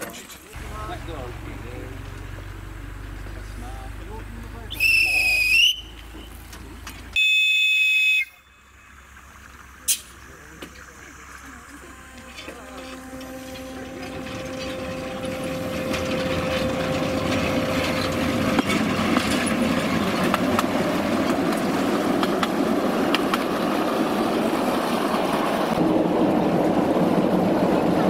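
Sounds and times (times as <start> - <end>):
miniature train wheels rumbling: 0.0 - 28.0.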